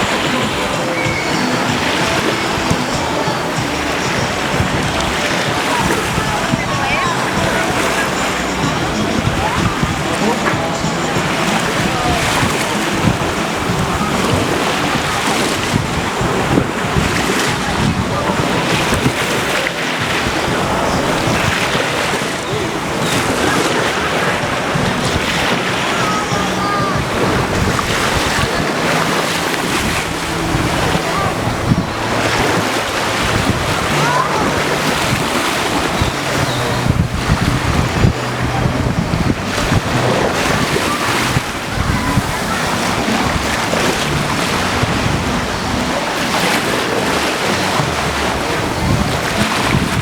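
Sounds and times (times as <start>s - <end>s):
sea waves washing on shore: 0.0s - 50.0s
wind buffeting microphone: 0.0s - 50.0s.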